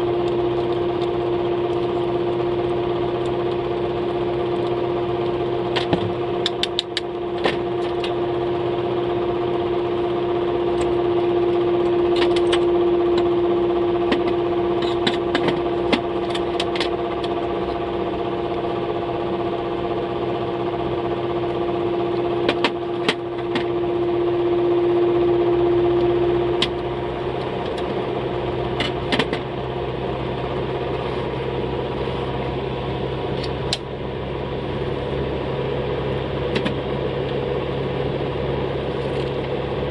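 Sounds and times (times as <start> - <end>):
small motor or fan humming: 0.0 - 39.9.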